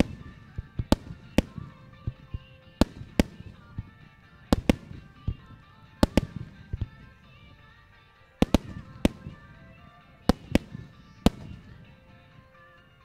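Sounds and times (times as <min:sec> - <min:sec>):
firework shells bursting: 0:00.0 - 0:13.0
music: 0:00.0 - 0:13.0.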